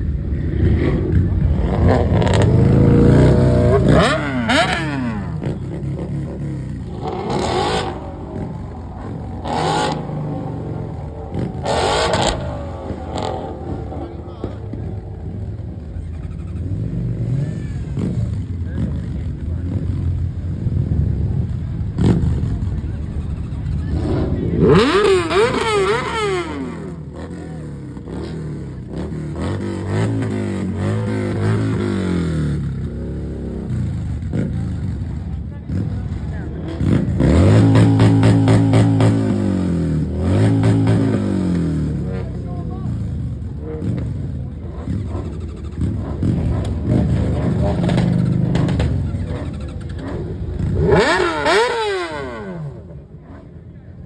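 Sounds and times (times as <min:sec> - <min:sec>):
car engine revving: 0:00.0 - 0:53.7
car engines droning: 0:00.0 - 0:54.0.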